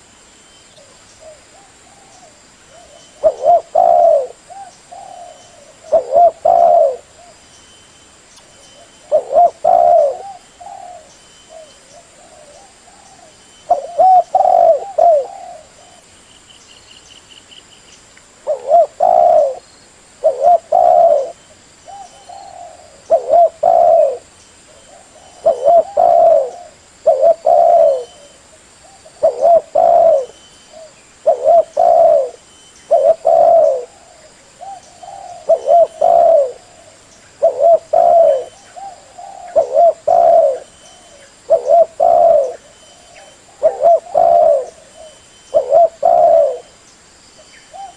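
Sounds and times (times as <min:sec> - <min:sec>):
dove cooing: 0:00.8 - 0:07.4, 0:08.8 - 0:16.1, 0:18.4 - 0:19.6, 0:20.2 - 0:46.8, 0:47.7 - 0:47.9.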